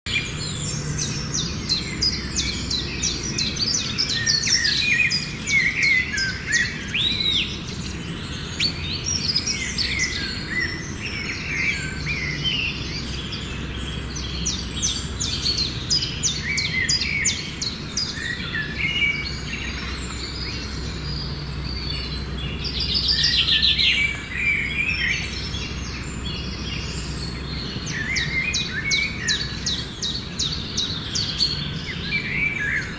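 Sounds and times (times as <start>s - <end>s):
birds chirping and trilling: 0.1s - 32.9s
low background hum: 0.1s - 32.9s.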